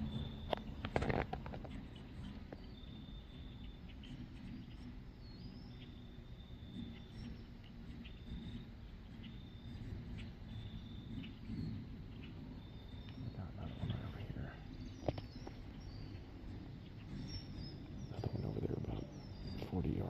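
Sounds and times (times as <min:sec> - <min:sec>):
faint chirps: 0:00.0 - 0:20.0
insect trilling: 0:00.0 - 0:20.0
low wind rumble: 0:00.0 - 0:20.0.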